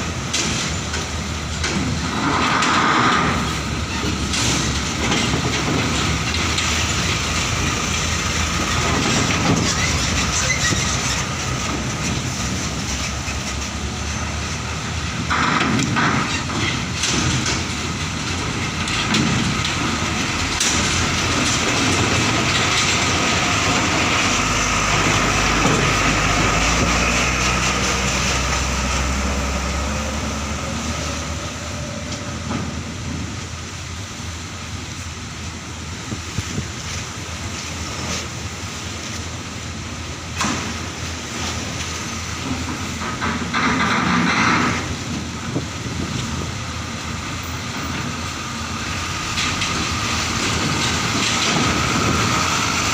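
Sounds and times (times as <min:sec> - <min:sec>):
truck diesel engines rumbling: 0:00.0 - 0:52.9
wheels clanking on steel ramp: 0:00.0 - 0:52.9.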